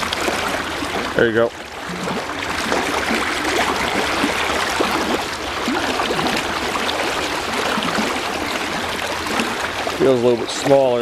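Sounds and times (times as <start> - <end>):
river water rushing: 0.0 - 11.0
water splashing and gurgling: 0.0 - 11.0.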